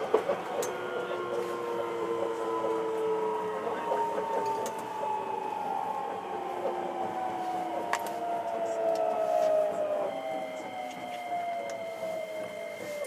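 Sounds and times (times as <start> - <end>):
electric train motors whining: 0.0 - 13.0.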